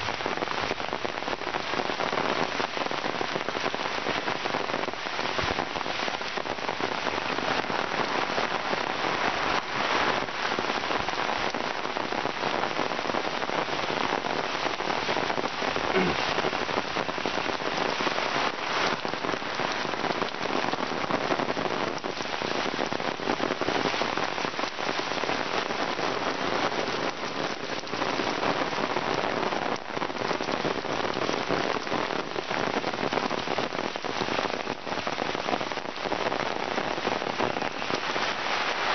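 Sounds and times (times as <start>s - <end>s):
heavy rain on paths and foliage: 0.0s - 38.9s.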